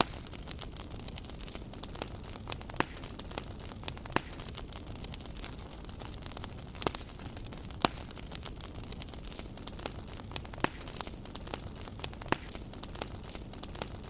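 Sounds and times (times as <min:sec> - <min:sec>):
campfire crackling: 0:00.0 - 0:14.0
fire popping: 0:00.0 - 0:14.0.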